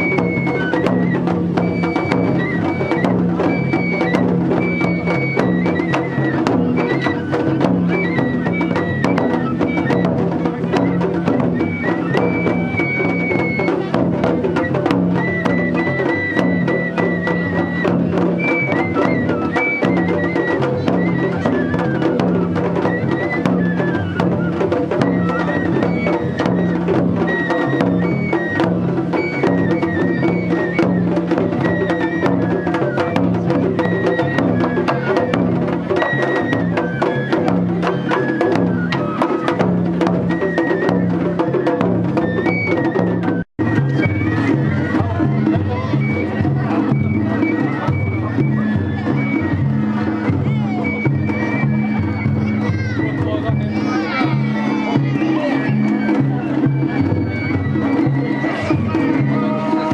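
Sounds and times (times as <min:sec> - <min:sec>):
continuous drumming: 0:00.0 - 0:59.9
high bamboo flute melody: 0:00.0 - 0:59.9
rapid clacking percussion: 0:00.0 - 0:59.9.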